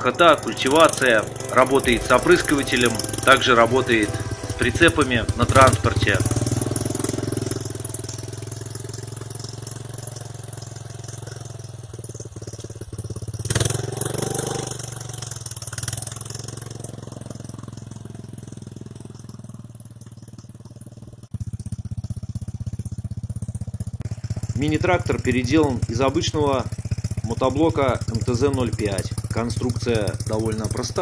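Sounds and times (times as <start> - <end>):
small tractor engine running: 0.0 - 31.0.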